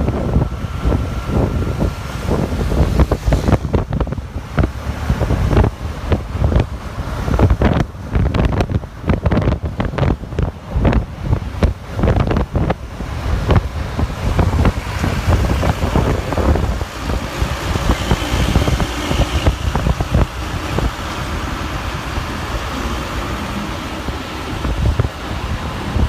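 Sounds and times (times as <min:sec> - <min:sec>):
motor vehicles passing: 0:00.0 - 0:26.0.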